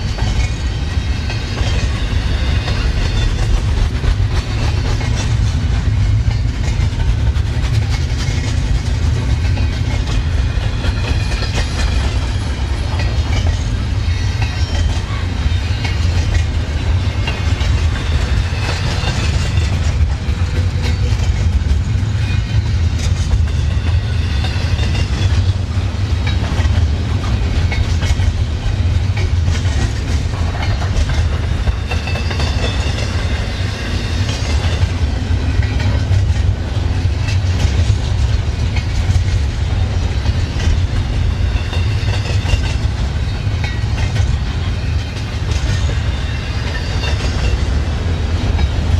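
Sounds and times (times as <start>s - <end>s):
railway cars rumbling: 0.0s - 48.9s
wheels clacking over rails: 0.0s - 48.9s.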